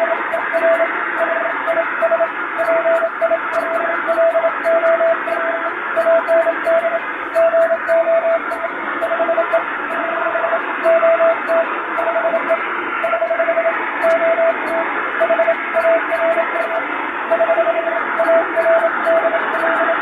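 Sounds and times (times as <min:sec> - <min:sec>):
morse code tone: 0:00.0 - 0:20.0
shortwave receiver hiss: 0:00.0 - 0:20.0.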